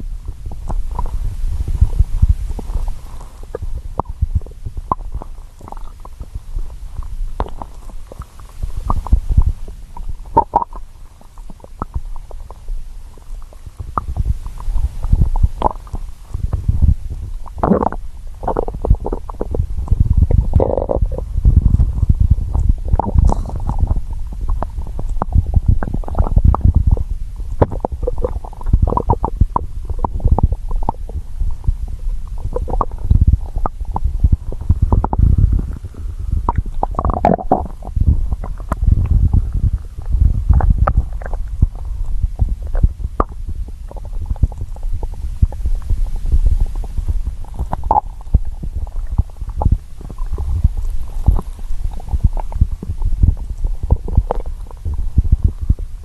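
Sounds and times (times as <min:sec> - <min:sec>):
stomach growling and gurgling: 0:00.0 - 0:56.0.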